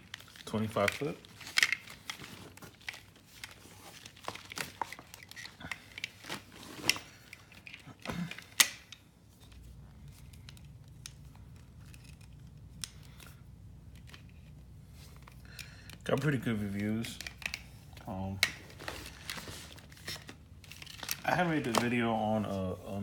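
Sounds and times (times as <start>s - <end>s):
cables and pouch rustling: 0.0s - 23.0s
faint low hum: 0.0s - 23.0s.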